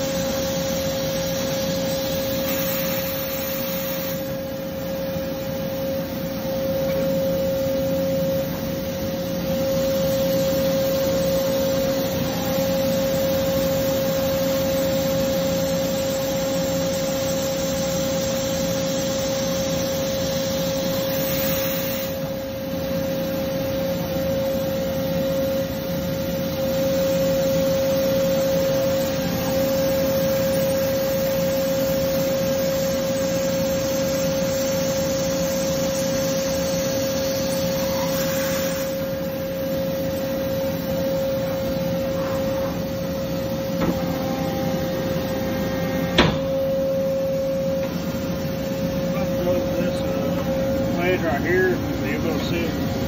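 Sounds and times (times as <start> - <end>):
machine running with high whine: 0.0 - 53.0.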